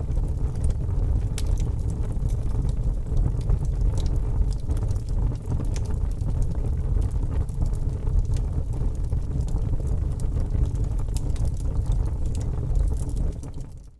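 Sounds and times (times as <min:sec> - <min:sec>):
wood fire roaring and crackling: 0:00.0 - 0:13.9.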